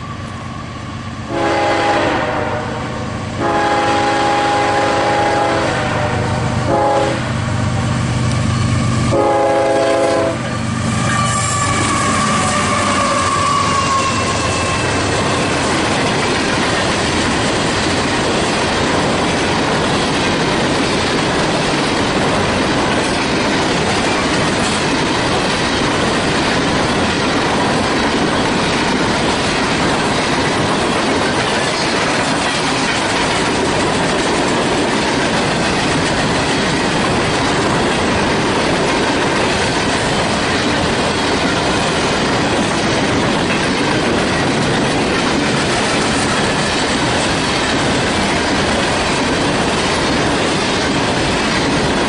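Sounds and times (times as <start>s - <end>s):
steel wheels rolling on rail: 0.0s - 52.0s
wheels clickety-clack over track: 3.4s - 52.0s.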